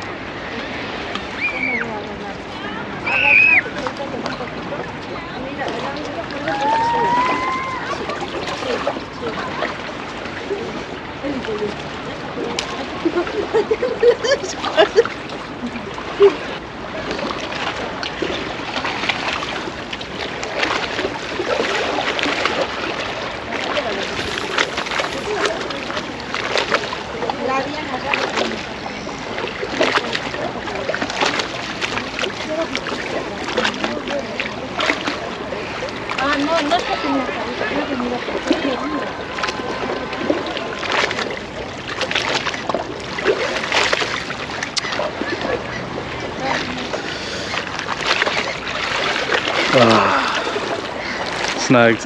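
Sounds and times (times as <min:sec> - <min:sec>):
seawater lapping at shore: 0:00.0 - 0:52.0.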